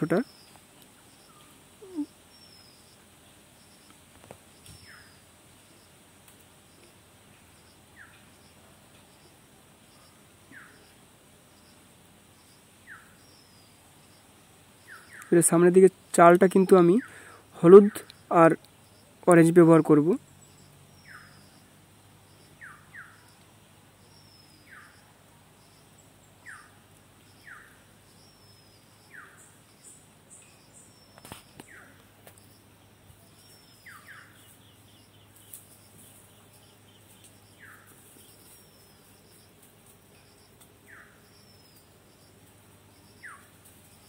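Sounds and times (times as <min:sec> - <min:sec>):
faint higher chirping: 0:00.0 - 0:03.0, 0:03.6 - 0:06.0, 0:06.7 - 0:15.7, 0:20.0 - 0:44.0.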